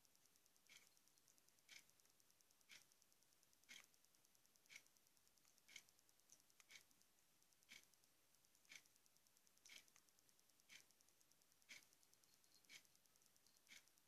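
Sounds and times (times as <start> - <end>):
faint even ticks: 0.0 - 14.0.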